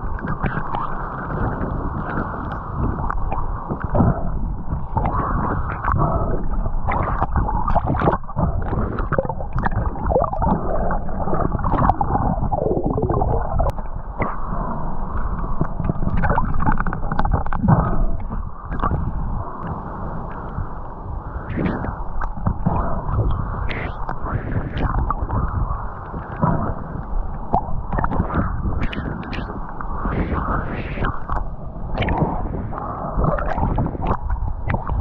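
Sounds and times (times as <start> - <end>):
muffled churning water: 0.0 - 35.0.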